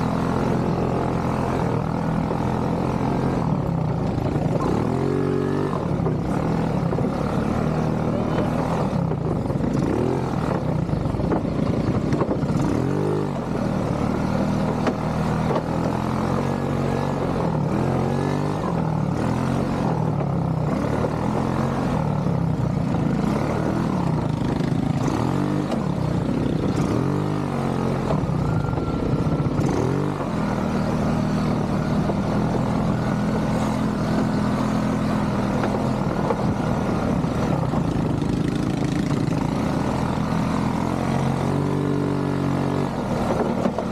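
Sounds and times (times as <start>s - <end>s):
atv engine revving: 0.0s - 43.9s.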